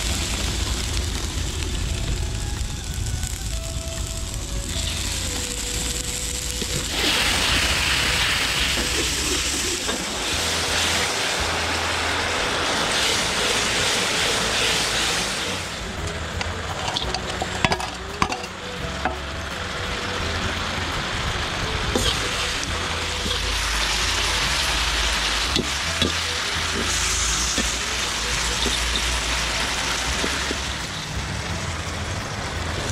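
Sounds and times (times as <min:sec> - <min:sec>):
sauce sizzling and bubbling in wok: 0:00.0 - 0:32.9.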